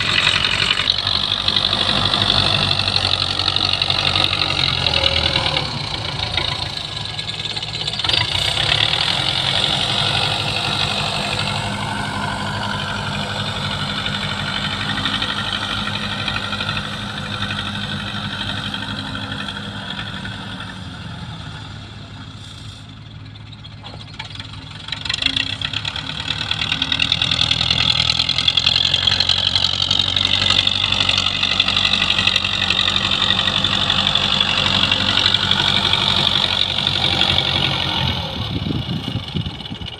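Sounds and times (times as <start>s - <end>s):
tractor diesel engine: 0.0s - 39.9s.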